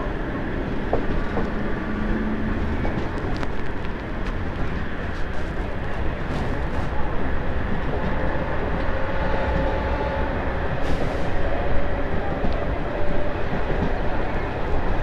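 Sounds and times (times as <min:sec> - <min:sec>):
faint train whine: 0:00.0 - 0:15.0
train wheels rumbling on rails: 0:00.0 - 0:15.0.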